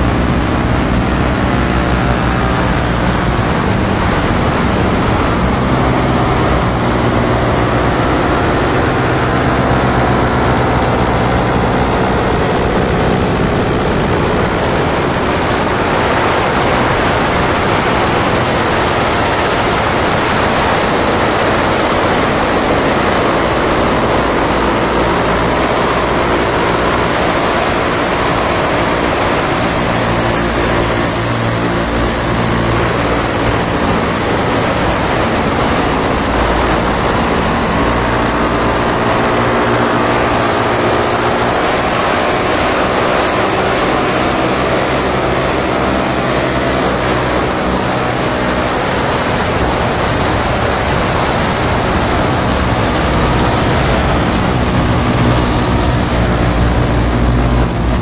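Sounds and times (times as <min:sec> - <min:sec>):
low droning tones: 0:00.0 - 0:58.0.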